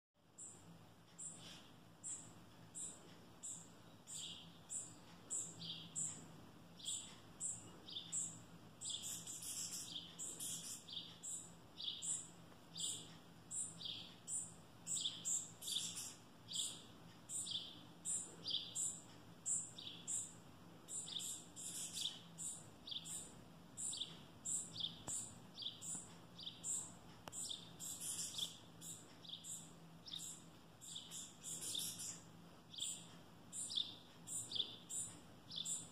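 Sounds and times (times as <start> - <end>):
fledgling begging chirps: 1.2 - 35.9.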